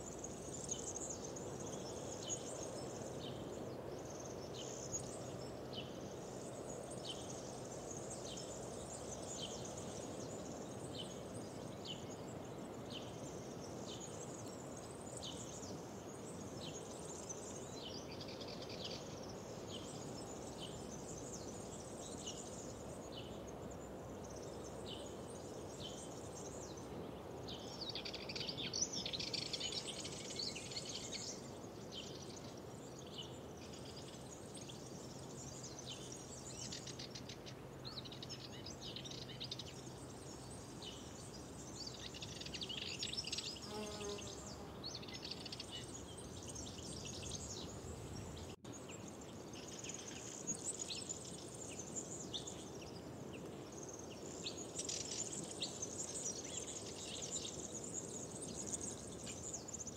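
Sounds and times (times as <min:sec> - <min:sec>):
outdoor background hiss: 0:00.0 - 0:59.9
songbirds singing: 0:00.0 - 0:59.9.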